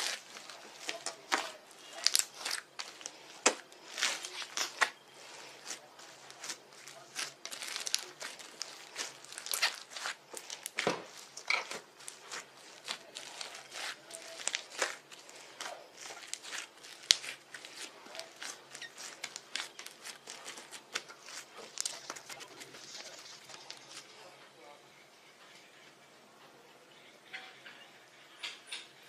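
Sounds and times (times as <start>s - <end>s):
slime squishing with wet crackles: 0.0s - 24.2s.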